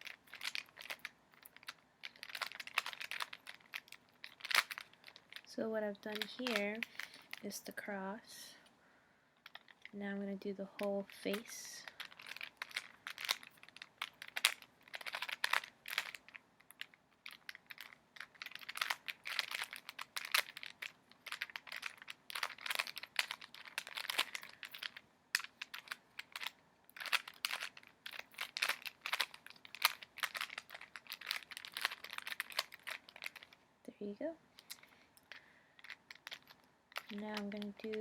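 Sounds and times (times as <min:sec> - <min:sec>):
puzzle cube plastic clicking: 0:00.0 - 0:07.6, 0:09.4 - 0:10.0, 0:10.8 - 0:33.6, 0:34.6 - 0:38.0.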